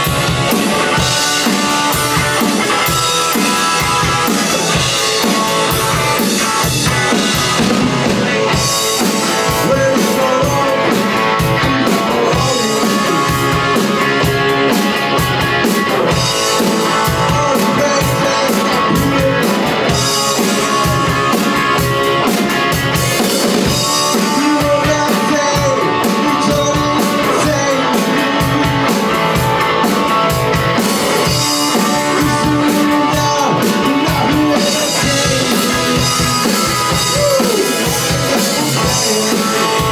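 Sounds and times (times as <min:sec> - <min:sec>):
drum kit steady beat: 0:00.0 - 0:39.9
electric guitar rock: 0:00.0 - 0:39.9.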